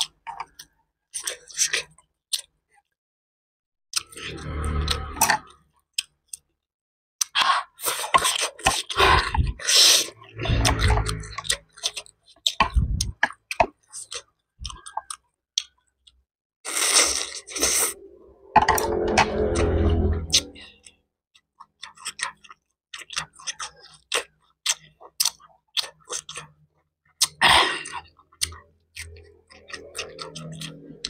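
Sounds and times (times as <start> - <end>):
person chewing: 0.0 - 2.6, 4.0 - 6.5, 7.2 - 18.0, 21.6 - 31.0.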